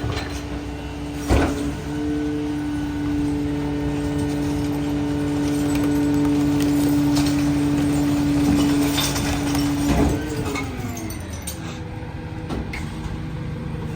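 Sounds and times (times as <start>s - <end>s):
garbage truck engine whine: 0.0s - 13.9s.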